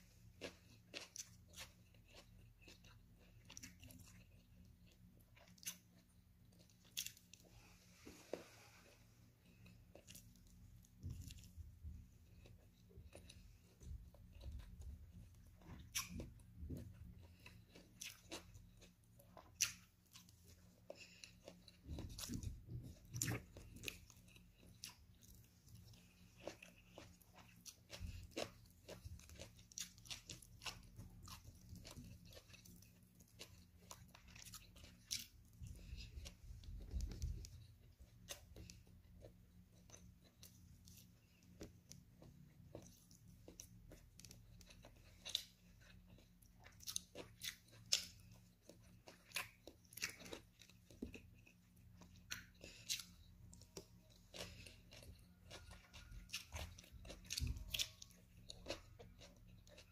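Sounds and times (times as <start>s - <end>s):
person chewing and biting: 0.0s - 59.9s.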